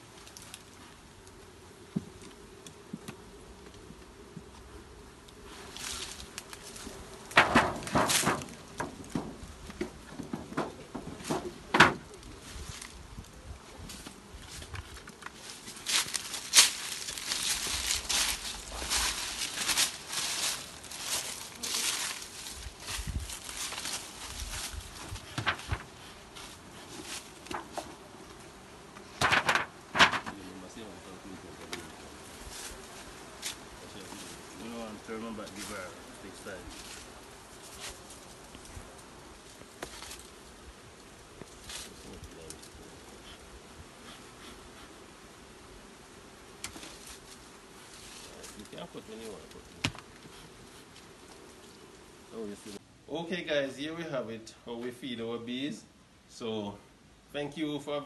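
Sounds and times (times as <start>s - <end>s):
bee smoker puffing: 0.0s - 52.8s
honeybees humming: 0.0s - 53.0s.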